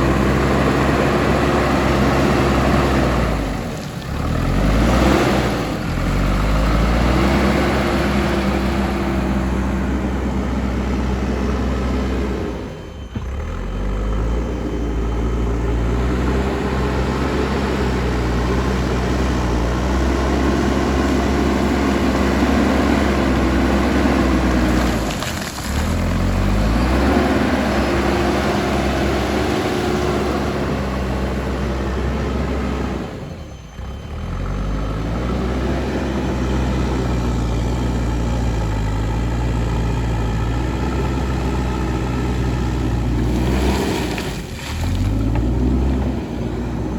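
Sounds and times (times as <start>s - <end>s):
diesel engine droning under load: 0.0s - 46.9s.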